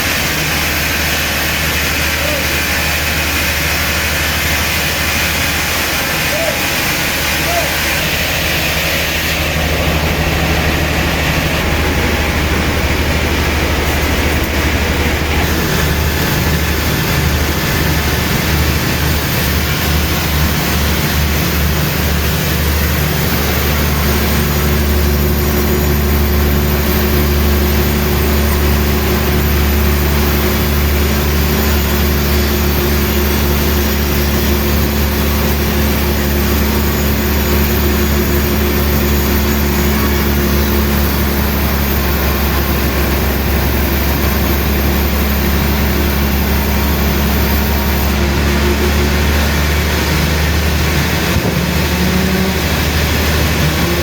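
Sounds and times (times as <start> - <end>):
heavy machine engine humming: 0.0 - 54.0
steady machine tone: 0.0 - 54.0.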